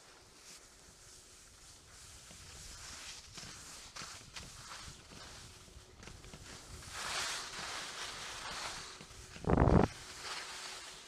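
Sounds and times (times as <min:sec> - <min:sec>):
skis sliding over packed snow: 0:00.0 - 0:11.0.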